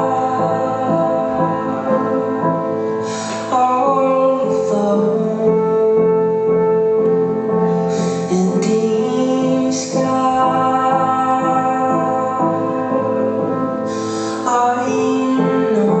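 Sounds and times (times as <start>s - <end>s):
piano and accompanying instruments: 0.0s - 16.0s.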